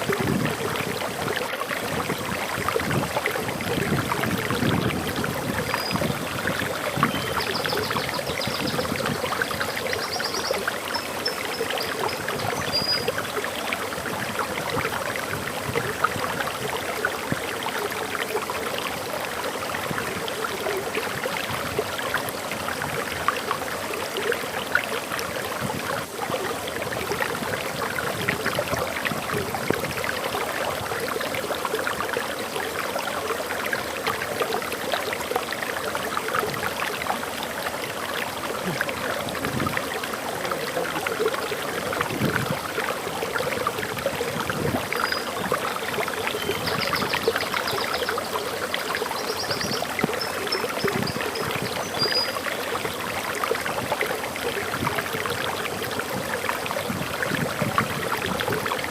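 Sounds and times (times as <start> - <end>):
water splashing over waterfall: 0.0 - 58.9.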